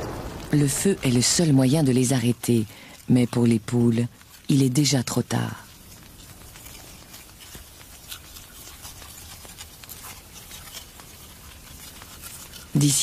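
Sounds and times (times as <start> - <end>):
ants rustling and crackling: 0.0 - 13.0
small scattered ticks: 1.3 - 13.0.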